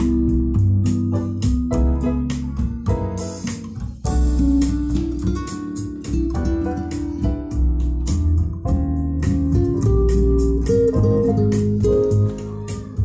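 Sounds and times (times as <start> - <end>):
bass-heavy music through speakers: 0.0 - 13.0.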